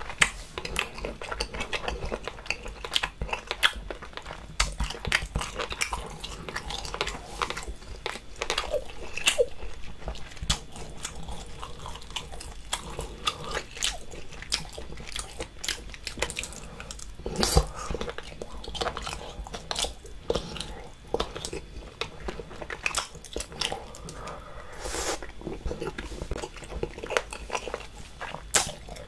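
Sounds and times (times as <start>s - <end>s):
wet chewing and smacking: 0.0s - 24.5s, 25.2s - 29.0s.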